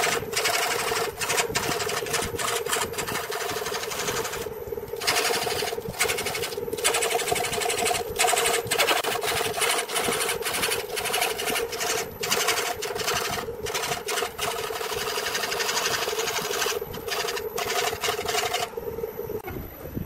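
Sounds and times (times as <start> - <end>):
turning tool cutting wood: 0.0 - 18.8
electric lathe humming: 0.0 - 19.4.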